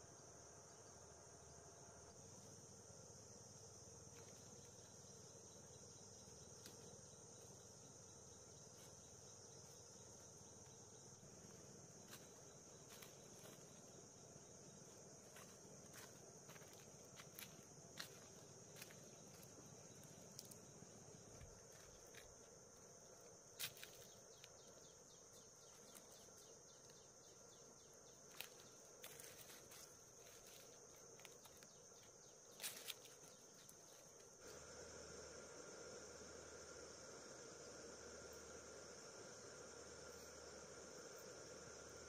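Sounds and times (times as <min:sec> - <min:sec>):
high-pitched insect drone: 0:00.0 - 0:42.0.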